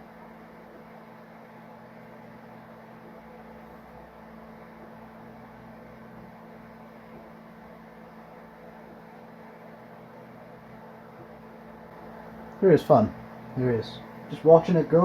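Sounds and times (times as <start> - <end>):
three d printer humming: 1.9 - 15.0.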